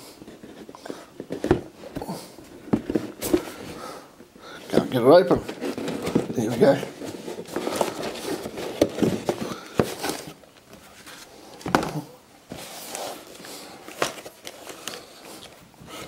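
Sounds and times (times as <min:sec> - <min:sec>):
plastic bag rustling and crinkling: 0:00.0 - 0:16.0.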